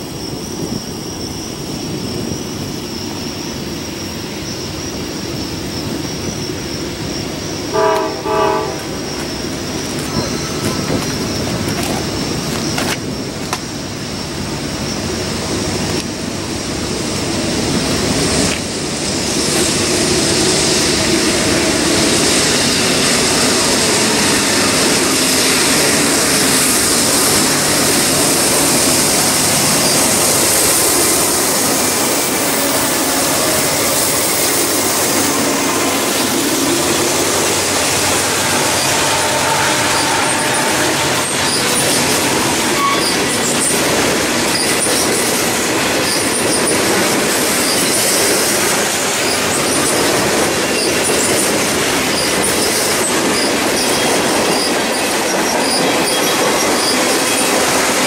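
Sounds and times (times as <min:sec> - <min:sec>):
freight train rolling rumble: 0:00.0 - 0:58.0
train wheel and rail noise: 0:00.0 - 0:58.0.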